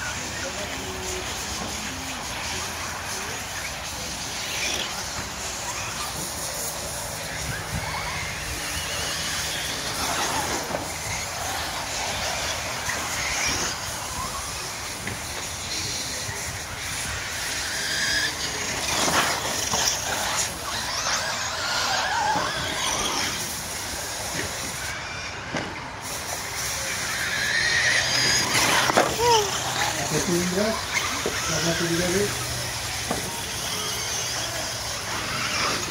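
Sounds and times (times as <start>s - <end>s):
toy car motors whining: 0.0s - 35.9s
tyres hissing on dirt: 0.0s - 35.9s.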